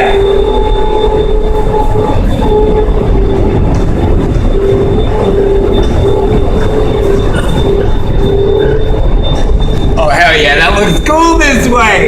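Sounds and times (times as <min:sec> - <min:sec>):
train ride rumble: 0:00.0 - 0:12.0
train whine: 0:00.0 - 0:12.0.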